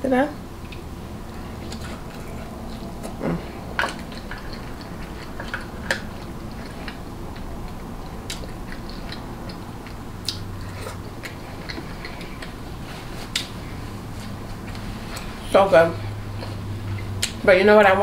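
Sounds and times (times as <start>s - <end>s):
low hum: 0.0s - 18.0s
person chewing food: 0.5s - 15.4s, 16.0s - 17.4s.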